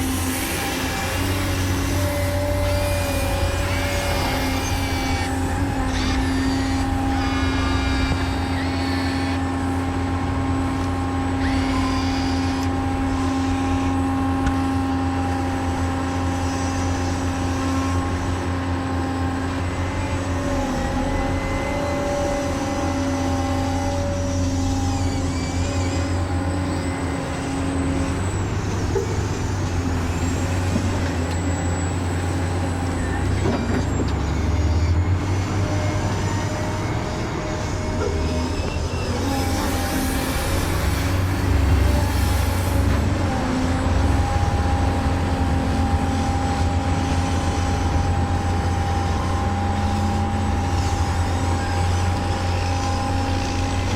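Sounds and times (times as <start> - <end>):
model truck motors whining: 0.0 - 53.9.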